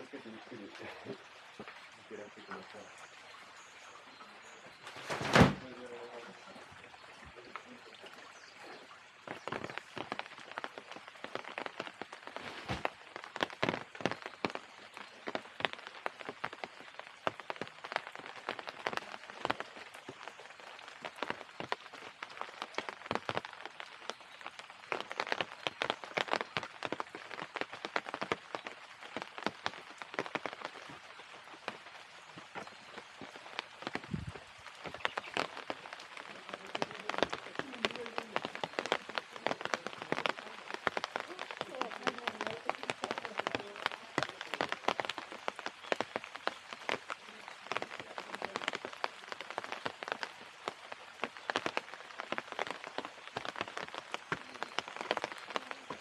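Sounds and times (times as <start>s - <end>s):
rain on hard surfaces: 0.0s - 56.0s.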